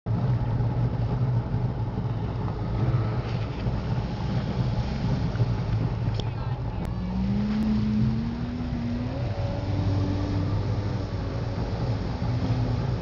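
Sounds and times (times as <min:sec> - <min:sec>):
water noise: 0:00.1 - 0:13.0
watercraft engine drone: 0:00.1 - 0:13.0.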